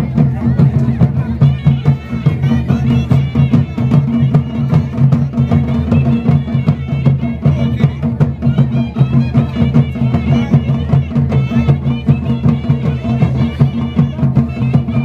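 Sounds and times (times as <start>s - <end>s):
drums beating: 0.0s - 15.0s
reed pipe melody: 0.0s - 15.0s.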